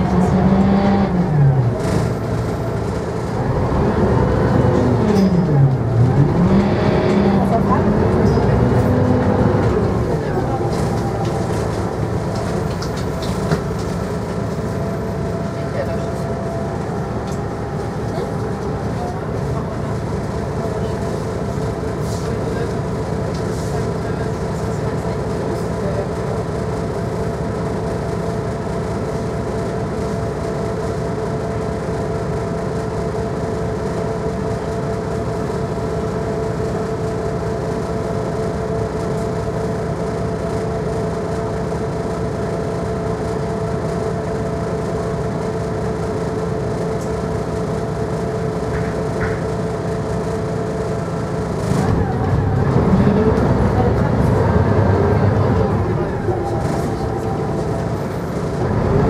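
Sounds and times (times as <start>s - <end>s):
bus engine and road drone: 0.0s - 59.0s.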